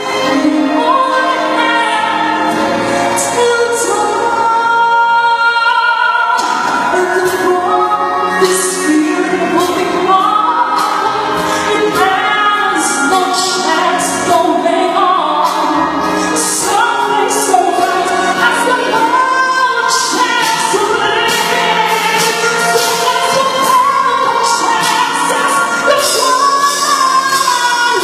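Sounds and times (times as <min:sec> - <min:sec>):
backing track: 0:00.0 - 0:28.0
person singing: 0:00.0 - 0:28.0.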